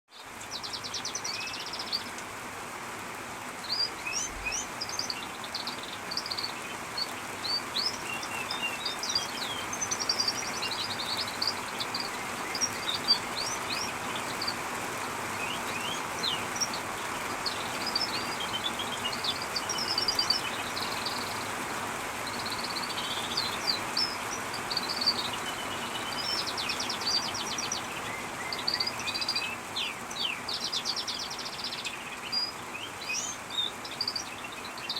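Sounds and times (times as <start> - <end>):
canaries singing: 0.1 - 2.2, 3.6 - 34.9
rain falling: 0.1 - 34.9.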